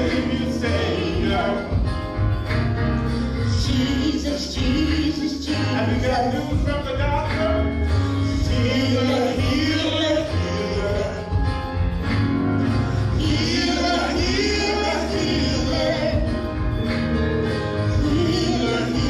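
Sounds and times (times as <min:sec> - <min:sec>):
gospel voices singing: 0:00.0 - 0:19.0
instrumental music with bass: 0:00.0 - 0:19.0.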